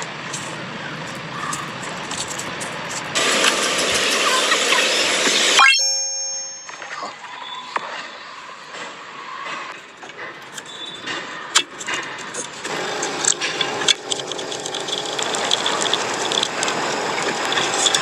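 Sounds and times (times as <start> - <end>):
steady mechanical noise: 0.0 - 5.6, 8.2 - 18.0.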